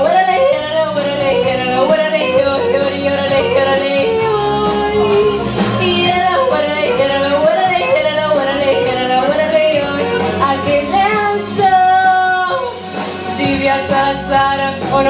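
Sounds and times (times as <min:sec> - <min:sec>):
backing music: 0:00.0 - 0:15.0
woman singing into a microphone: 0:00.0 - 0:15.0.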